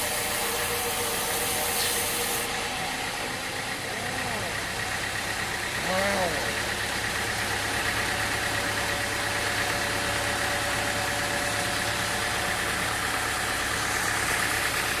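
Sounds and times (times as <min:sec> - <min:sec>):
machine engine running: 0:00.0 - 0:15.0.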